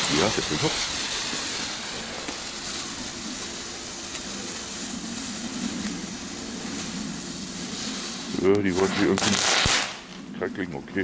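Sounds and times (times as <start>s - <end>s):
firework spinner hissing: 0.0s - 11.0s.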